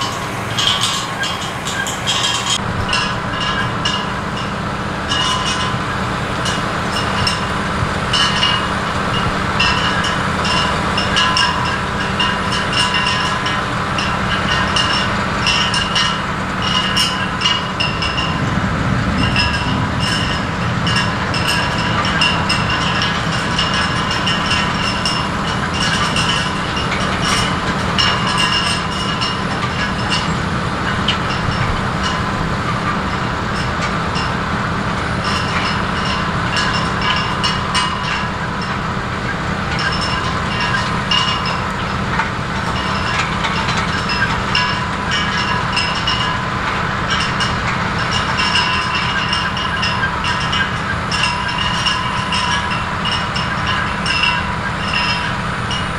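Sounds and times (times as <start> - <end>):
conveyor rattling and squeaking: 0.0 - 55.9
harvester engine drone: 0.0 - 55.9.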